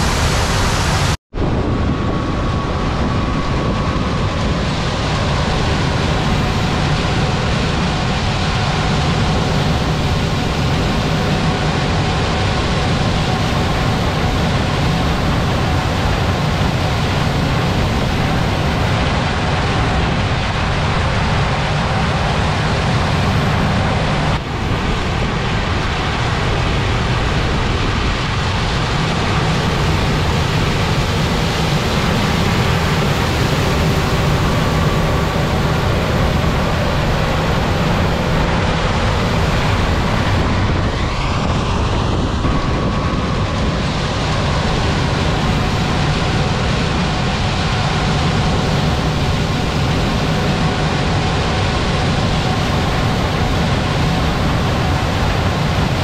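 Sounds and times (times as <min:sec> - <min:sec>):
low hum: 0:00.0 - 0:56.0
combine harvester engine and threshing: 0:01.4 - 0:56.0.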